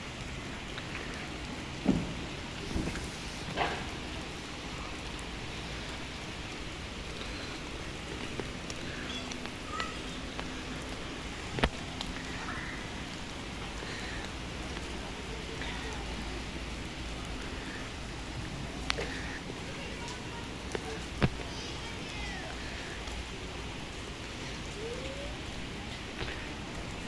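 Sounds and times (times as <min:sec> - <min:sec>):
rain falling on wet paving: 0:00.0 - 0:27.0.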